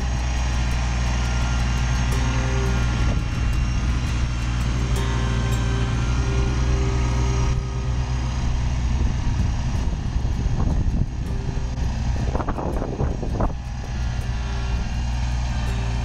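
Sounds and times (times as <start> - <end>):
tractor diesel engine running: 0.0 - 16.0
whine rising and falling: 0.0 - 16.0.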